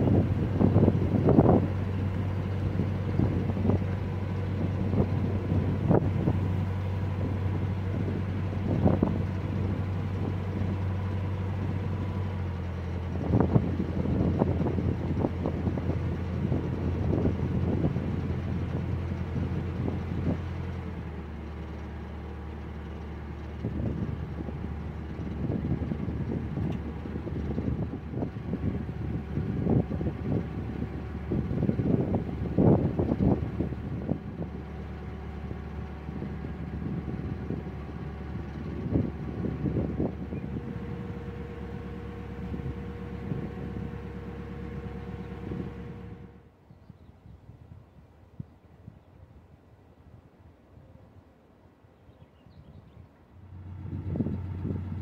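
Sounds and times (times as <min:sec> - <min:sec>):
boat diesel engine running: 0:00.0 - 0:46.5, 0:53.2 - 0:55.0
wind buffeting microphone: 0:00.0 - 0:49.1, 0:53.5 - 0:55.0.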